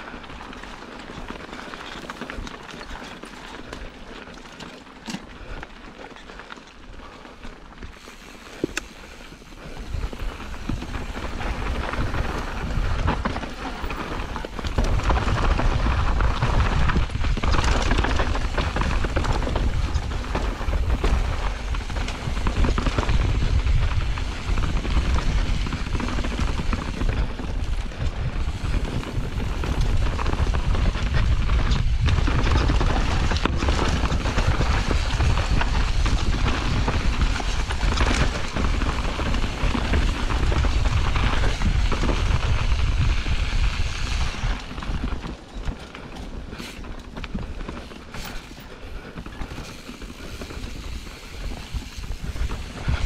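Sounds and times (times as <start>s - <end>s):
bike tyre noise: 0.0s - 53.0s
wind buffeting microphone: 8.6s - 53.0s.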